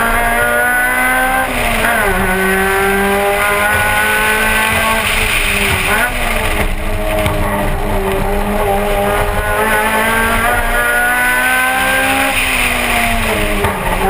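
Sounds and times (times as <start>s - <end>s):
car engine accelerating hard: 0.0s - 14.0s
road noise: 0.0s - 14.0s
rushing wind: 0.0s - 14.0s.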